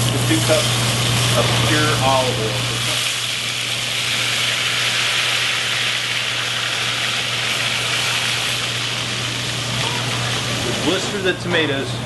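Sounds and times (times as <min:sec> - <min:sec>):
hot oil sizzling on tomatoes: 0:00.0 - 0:11.2.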